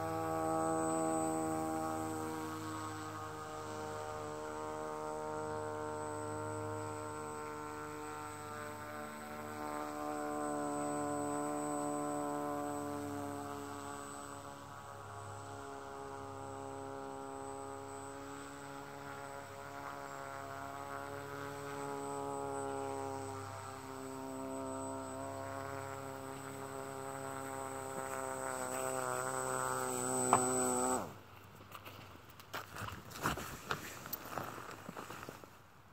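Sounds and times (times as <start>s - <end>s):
fan boat motor buzzing: 0.0s - 31.2s.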